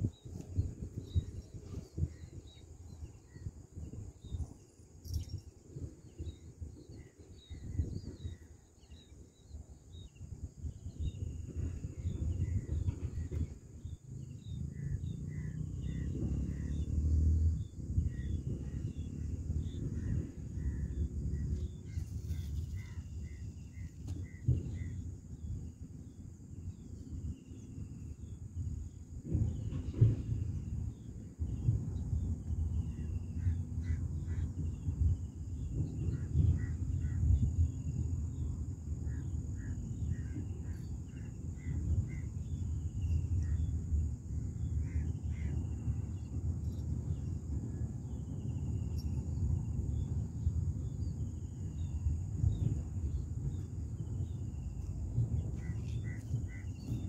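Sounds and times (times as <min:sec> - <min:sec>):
low wind rumble: 0:00.0 - 0:57.0.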